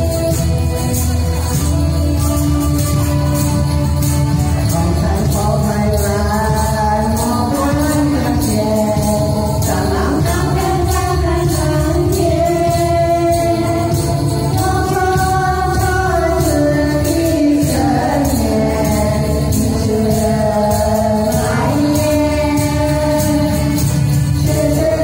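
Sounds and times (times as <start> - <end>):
karaoke backing track: 0.0 - 25.0
tambourine shaking: 0.0 - 25.0
women singing into microphones: 0.0 - 25.0.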